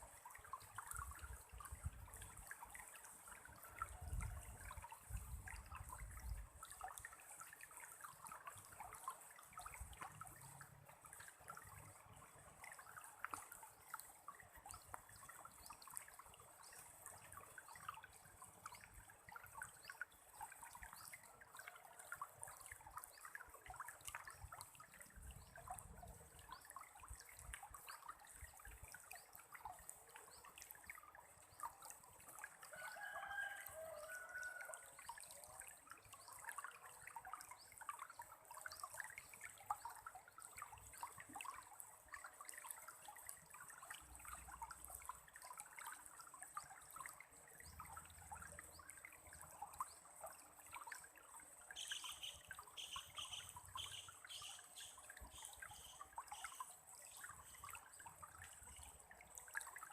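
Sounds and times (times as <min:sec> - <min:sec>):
faint trickling water: 0:00.0 - 0:59.9.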